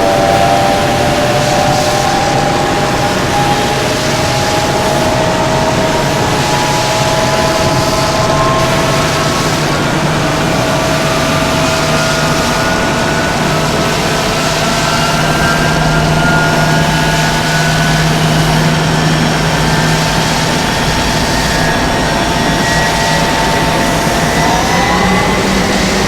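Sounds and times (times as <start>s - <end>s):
engine running loud: 0.0s - 26.0s.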